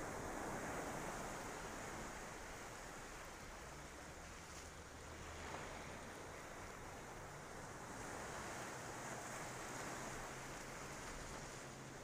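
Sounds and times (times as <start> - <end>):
small waves washing onto sand: 0.0 - 12.0.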